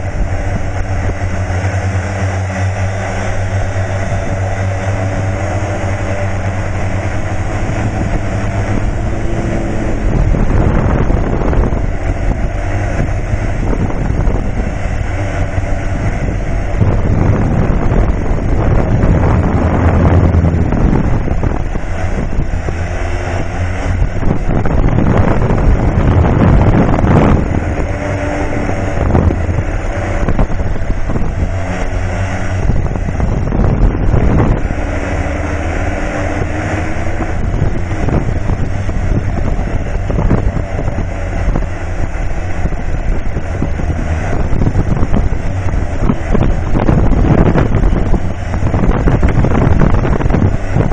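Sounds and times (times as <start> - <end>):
aircraft motor drone: 0.0 - 50.9
wind rush: 0.0 - 50.9.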